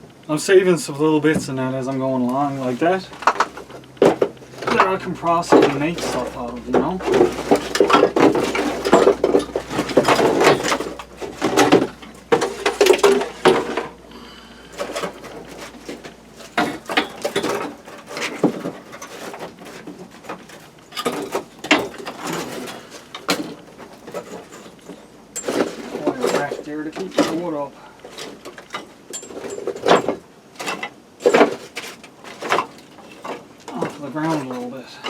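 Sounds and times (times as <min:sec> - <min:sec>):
hard objects knocking and clattering: 0:02.9 - 0:34.8.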